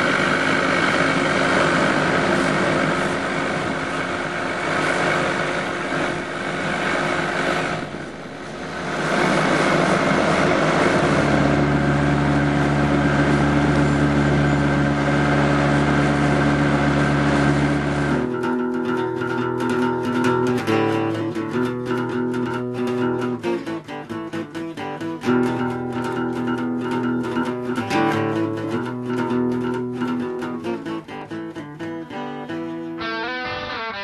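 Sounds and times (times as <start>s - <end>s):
acoustic guitar picking chords: 0.0s - 34.0s.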